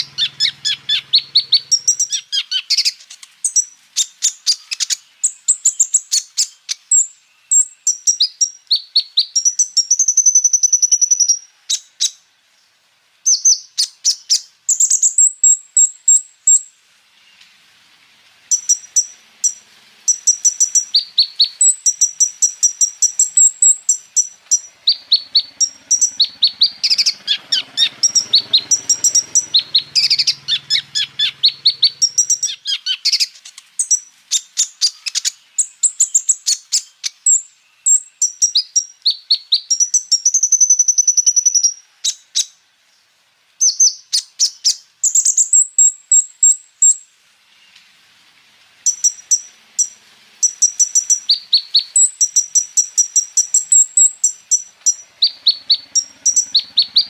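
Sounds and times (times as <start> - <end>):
sunbird chirps and trills: 0.0 - 57.0.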